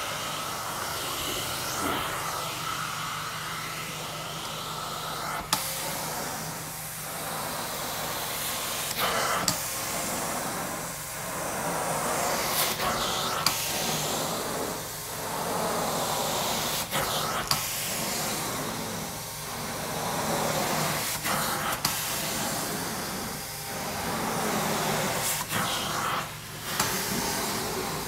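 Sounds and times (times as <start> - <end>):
steam cleaner hissing: 0.0 - 28.0.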